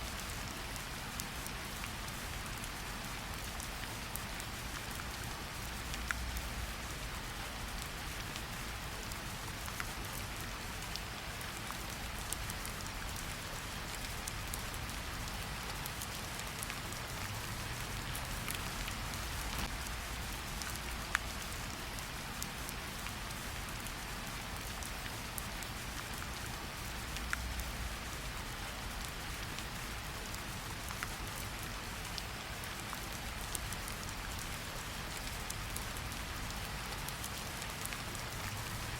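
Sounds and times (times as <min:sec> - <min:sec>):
rain hissing on a surface: 0:00.0 - 0:38.9.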